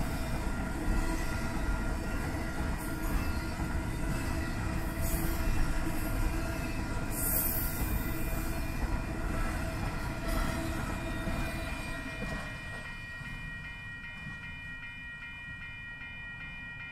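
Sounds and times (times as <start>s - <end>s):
freight train rolling past: 0.0s - 16.9s
railroad crossing bell: 0.0s - 16.9s.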